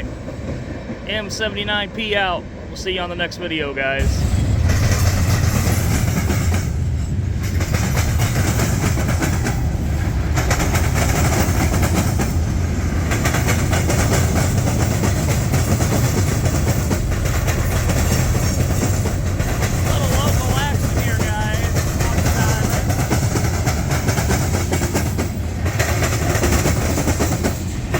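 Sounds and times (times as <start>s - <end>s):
freight train wheels clattering: 4.0s - 27.9s.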